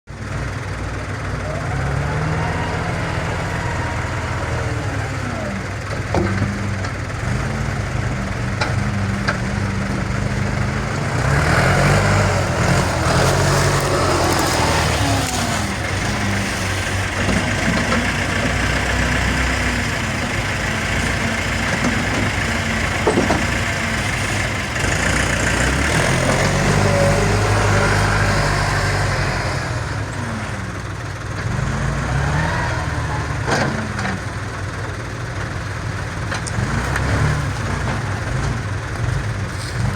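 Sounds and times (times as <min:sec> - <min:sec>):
diesel engine revving: 0:00.1 - 0:39.9.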